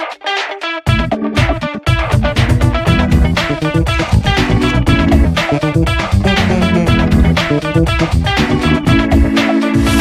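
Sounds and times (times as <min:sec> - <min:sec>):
guitar-led music with beat: 0:00.0 - 0:10.0.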